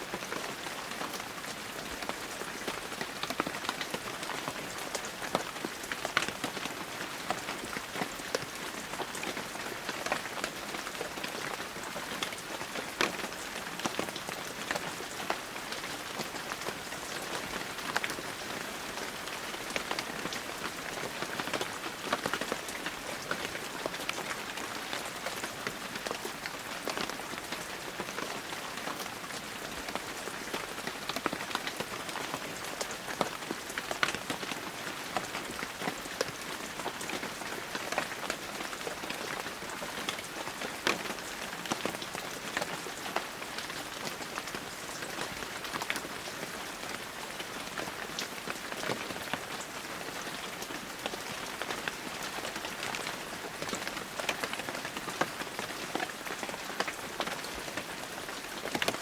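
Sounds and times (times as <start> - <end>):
heavy rain falling: 0.0 - 59.0
raindrops ticking on surfaces: 0.1 - 59.0.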